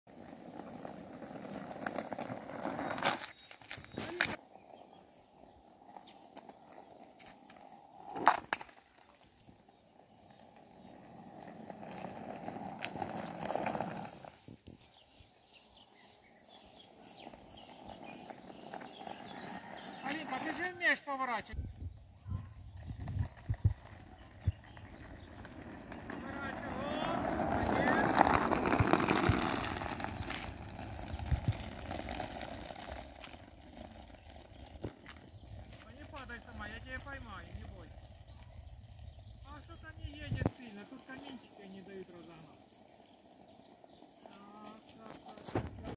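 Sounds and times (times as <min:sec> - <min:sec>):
skateboard wheels rolling on asphalt: 0:00.1 - 0:45.9.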